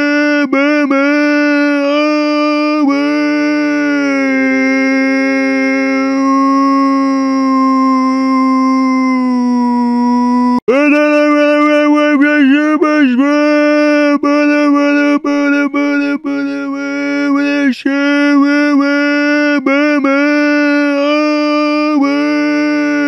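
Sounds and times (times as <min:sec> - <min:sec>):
voice screaming: 0:00.0 - 0:23.0.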